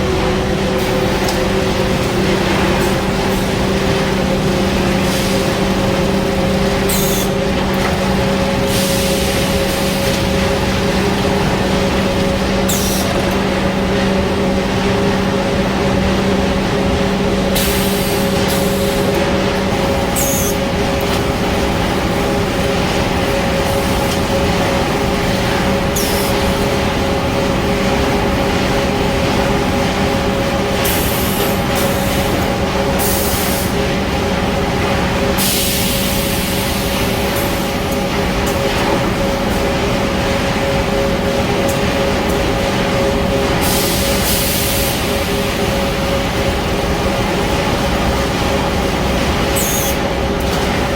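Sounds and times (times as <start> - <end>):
conveyor machine hum: 0.0 - 50.9.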